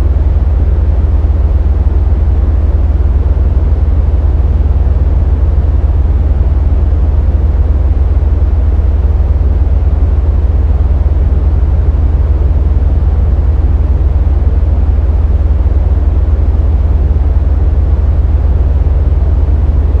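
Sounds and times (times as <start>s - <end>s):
synthesizer deep rumble: 0.0s - 20.0s.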